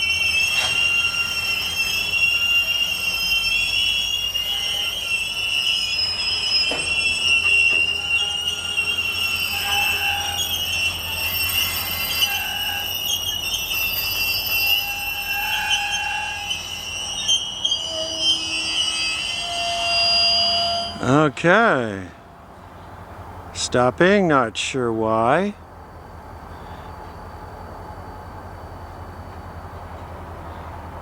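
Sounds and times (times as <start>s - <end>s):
steel wheels squealing: 0.0s - 23.9s, 25.9s - 27.8s
train rolling rumble: 0.0s - 31.0s.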